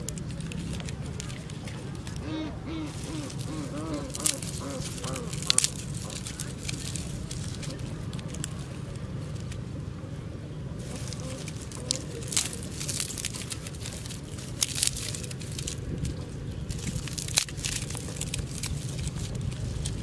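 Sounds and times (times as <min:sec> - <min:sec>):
dry sticks snapping: 0:00.0 - 0:09.7, 0:10.8 - 0:20.0.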